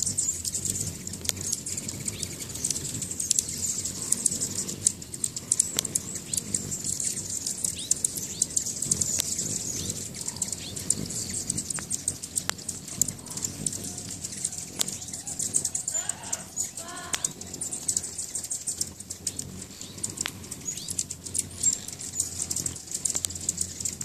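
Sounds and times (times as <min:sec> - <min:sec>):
hummingbird wings whirring: 0:00.0 - 0:24.0
hummingbirds twittering: 0:00.0 - 0:24.0
sharp clicks: 0:00.0 - 0:24.0.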